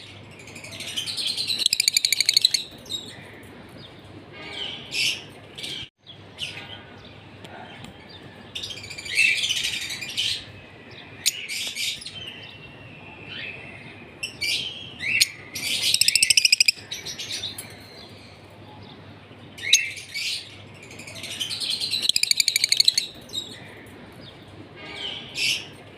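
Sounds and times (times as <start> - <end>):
lovebirds chirping and trilling: 0.0 - 25.9.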